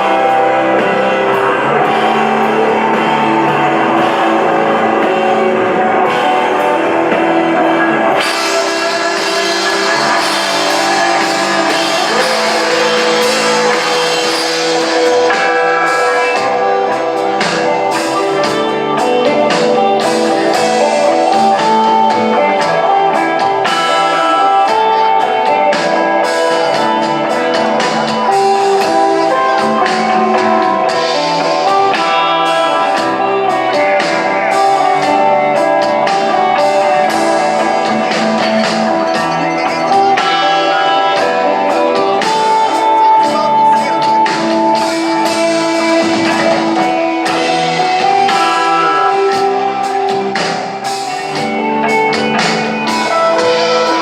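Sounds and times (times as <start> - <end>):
electric guitar: 0.0 - 54.0.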